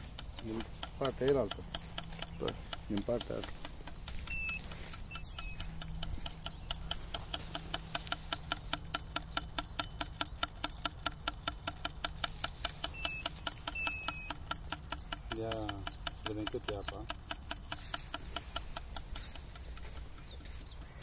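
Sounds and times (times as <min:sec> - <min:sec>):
fishing reel clicker ticking: 0:00.0 - 0:20.4.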